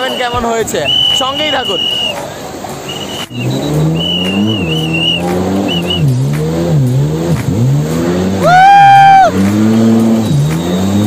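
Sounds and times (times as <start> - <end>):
jet ski engine revving: 0.9 - 11.0.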